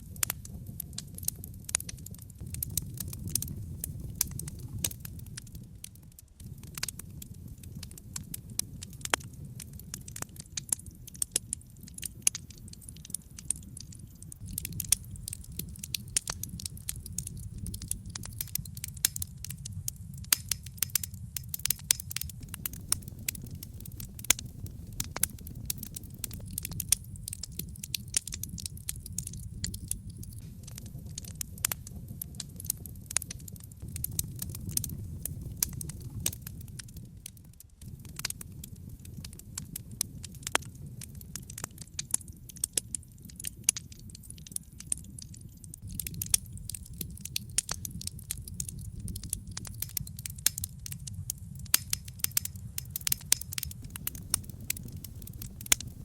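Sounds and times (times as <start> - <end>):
logs crackling and popping: 0.0 - 56.0
low rumble of flames: 0.0 - 56.0.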